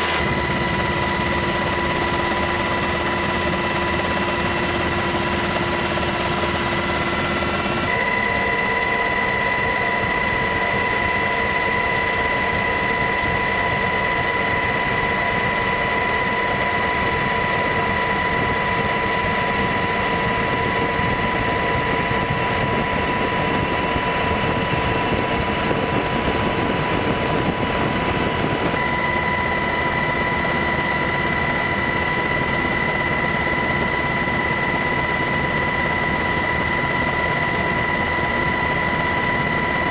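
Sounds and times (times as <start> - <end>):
helicopter engine and rotor drone: 0.0 - 39.9
high turbine whine: 0.0 - 39.9.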